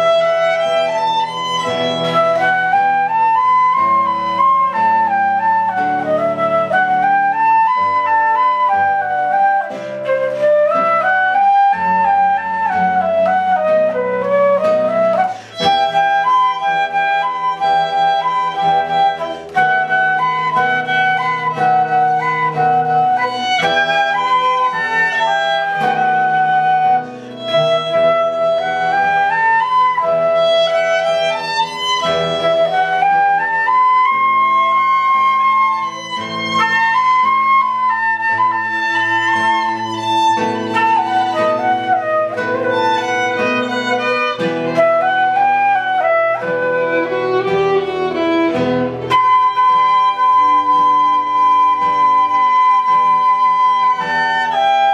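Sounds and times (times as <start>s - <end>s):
flute-like wind instrument melody: 0.0s - 54.9s
medieval-style ensemble music: 0.0s - 54.9s.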